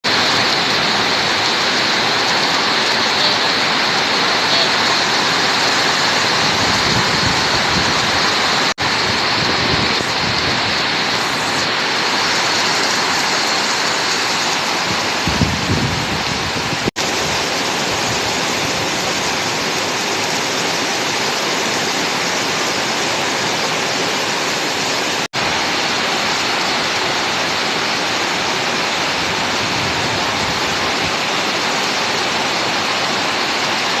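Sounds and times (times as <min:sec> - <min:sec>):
heavy rain downpour: 0:00.0 - 0:34.0.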